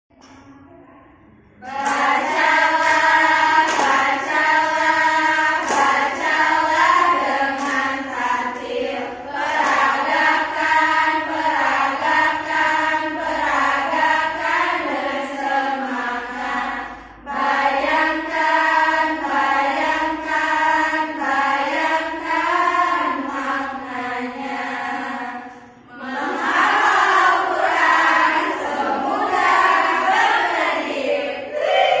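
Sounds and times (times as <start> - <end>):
young women chanting in unison: 1.6 - 32.0.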